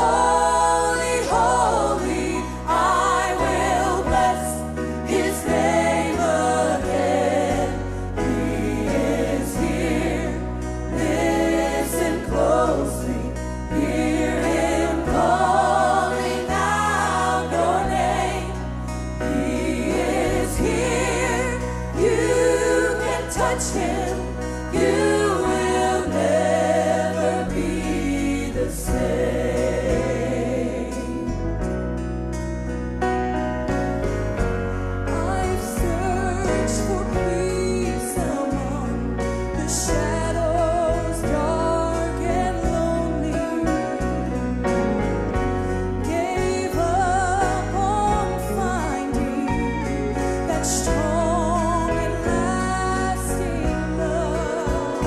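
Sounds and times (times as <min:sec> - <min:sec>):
choir singing: 0:00.0 - 0:31.7, 0:35.2 - 0:55.0
band playing: 0:00.0 - 0:55.0.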